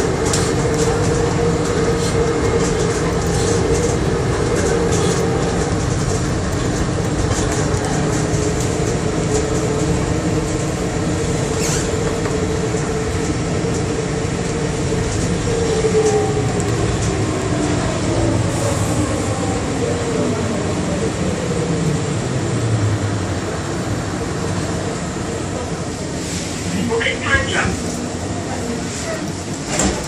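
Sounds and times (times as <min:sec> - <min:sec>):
people mover rumbling on guideway: 0:00.0 - 0:30.0.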